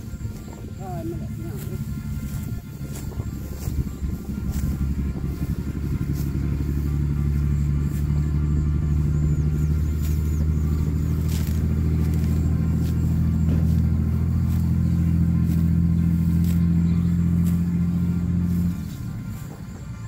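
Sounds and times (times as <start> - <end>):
brush cutter engine running: 0.0 - 20.0.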